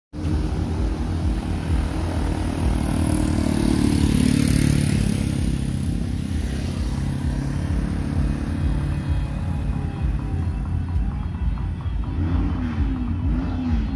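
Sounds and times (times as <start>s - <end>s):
vehicles driving past: 0.1s - 13.9s.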